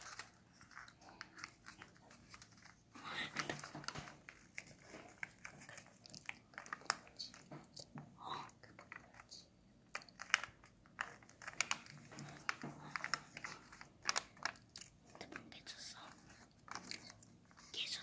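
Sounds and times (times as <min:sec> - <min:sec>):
paper crinkling and crackling: 0:00.0 - 0:18.0.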